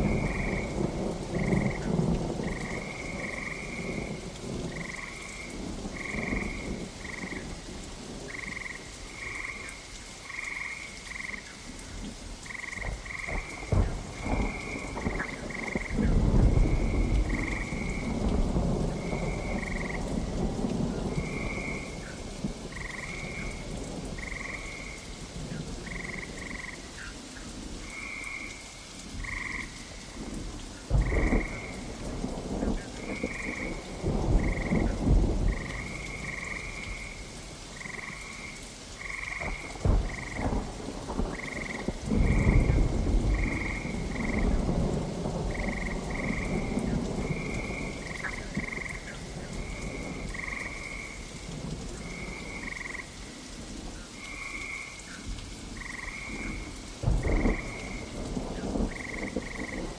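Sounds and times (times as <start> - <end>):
frogs calling: 0.0 - 7.6, 8.2 - 27.2, 27.8 - 30.2, 32.6 - 53.3, 54.1 - 59.9
thunder rumbling: 0.0 - 9.6, 12.5 - 26.7, 29.1 - 59.9
steady rain: 0.0 - 59.9.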